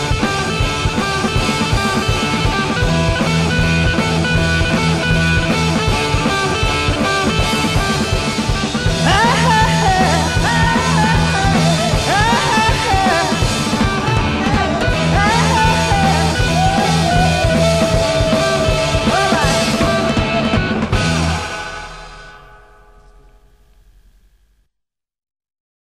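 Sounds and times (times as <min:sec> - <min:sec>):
driving bass and drums: 0:00.0 - 0:24.3
electric guitar bending notes: 0:00.0 - 0:24.3.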